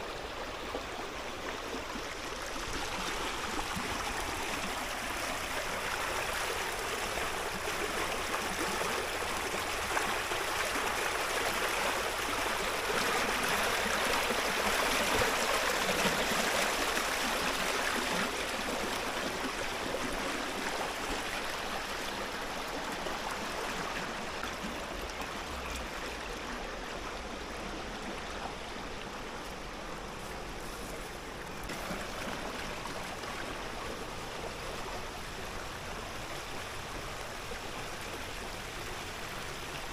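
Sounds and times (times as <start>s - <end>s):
water rushing and splashing: 0.4s - 39.9s.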